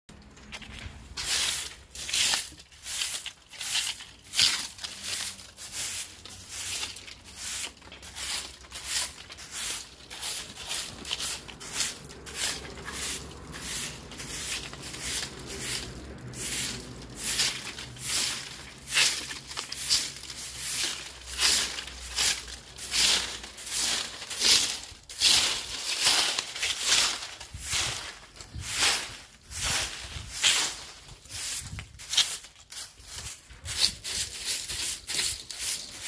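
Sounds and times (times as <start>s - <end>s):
broom sweeping leaves on concrete: 0.6s - 36.0s.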